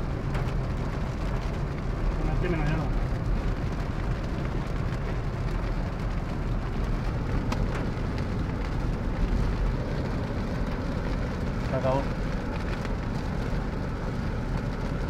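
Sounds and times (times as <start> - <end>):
heavy rain on car: 0.0 - 15.0
road and engine noise: 0.0 - 15.0.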